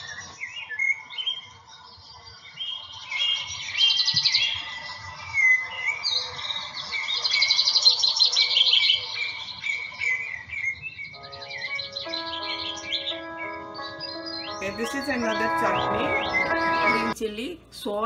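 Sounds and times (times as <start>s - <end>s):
birds chirping and singing: 0.0s - 17.2s.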